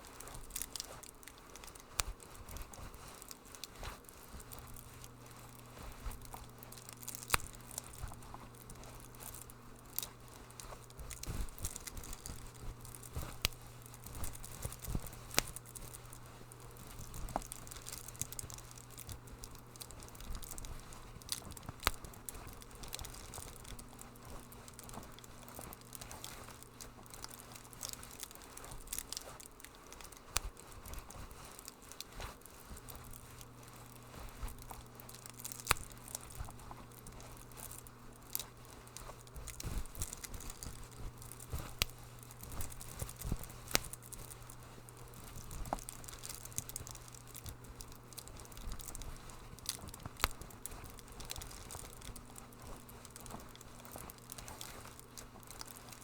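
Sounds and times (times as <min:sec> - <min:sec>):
low steady hum: 0:00.0 - 0:56.0
wood fire crackling: 0:00.0 - 0:56.0.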